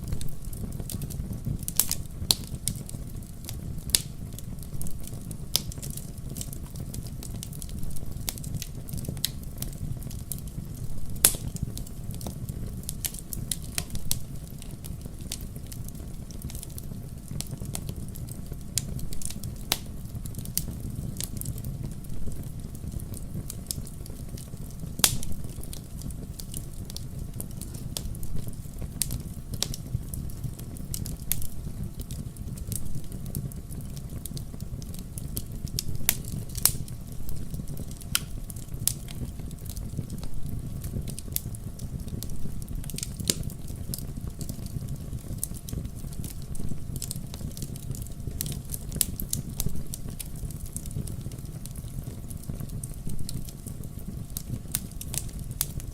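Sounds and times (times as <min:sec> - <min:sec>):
low rumble of flames: 0:00.0 - 0:55.9
wood fire pops and snaps: 0:00.0 - 0:55.9.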